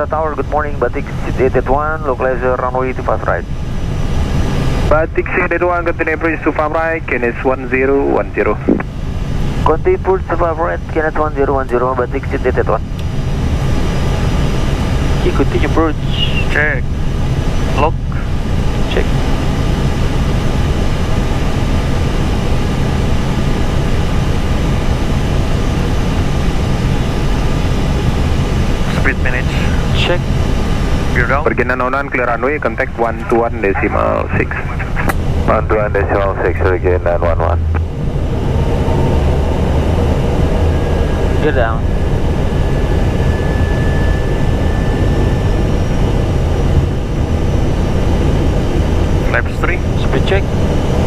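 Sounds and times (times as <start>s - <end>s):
airflow rush and engine drone: 0.0s - 51.0s
faint steady whine: 0.0s - 51.0s.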